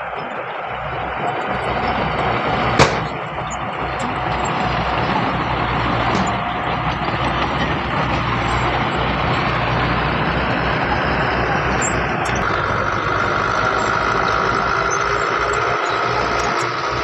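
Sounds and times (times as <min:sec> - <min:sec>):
diesel engines rumbling: 0:00.0 - 0:17.0
high-pitched whine: 0:00.0 - 0:17.0.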